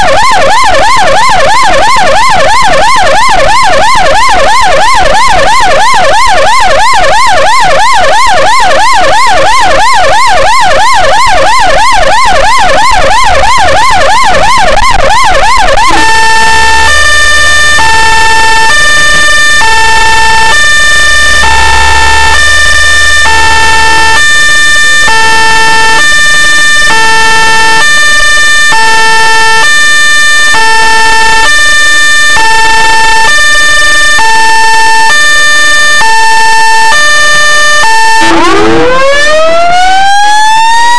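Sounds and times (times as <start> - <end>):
ambulance siren: 0.0 - 40.9.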